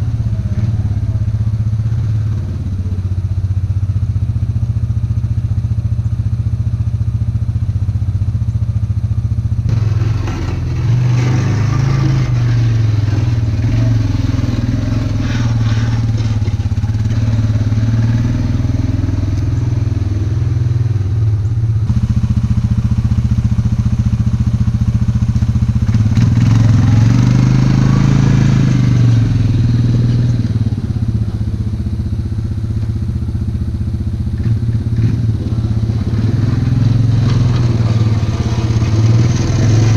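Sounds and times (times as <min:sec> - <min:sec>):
atv engine revving: 0:00.0 - 0:07.5, 0:08.8 - 0:39.9.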